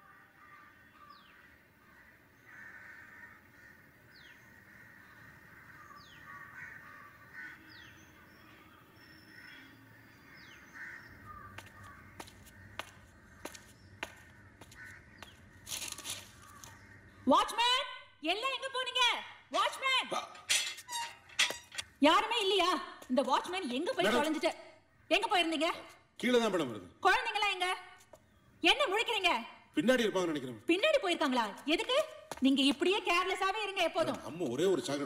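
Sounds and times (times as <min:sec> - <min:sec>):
birds calling: 0:00.0 - 0:17.8, 0:19.0 - 0:35.0.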